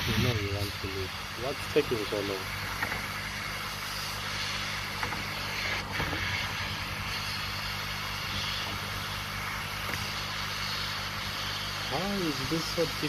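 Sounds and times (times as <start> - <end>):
hot air station hissing: 0.0 - 13.0.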